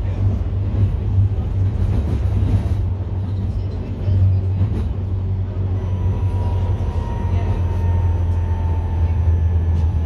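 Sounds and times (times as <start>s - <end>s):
traffic noise: 0.0s - 10.0s
tram rumble and hum: 0.0s - 10.0s.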